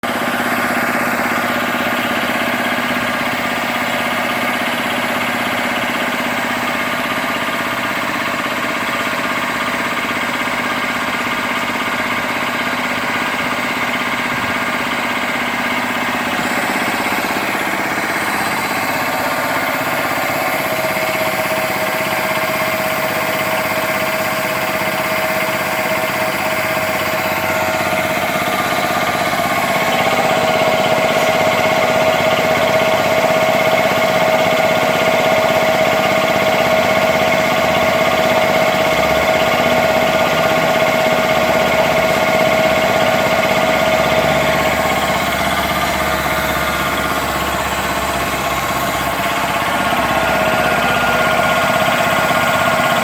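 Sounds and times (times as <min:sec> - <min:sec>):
compressor humming: 0:00.0 - 0:53.0.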